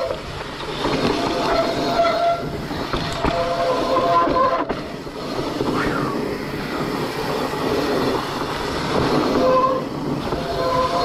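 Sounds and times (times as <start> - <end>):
tyres rattling on trail: 0.0 - 11.0.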